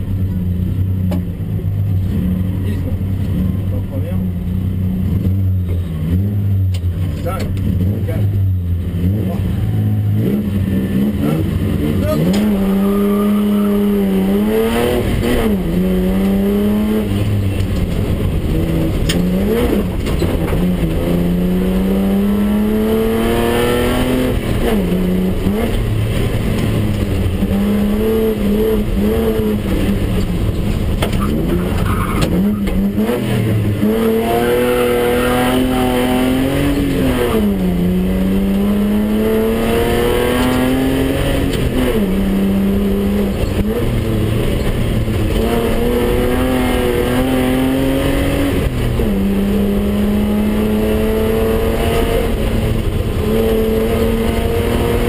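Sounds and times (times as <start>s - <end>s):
car engine revving: 0.0s - 55.0s
tyre and road noise: 0.0s - 55.0s.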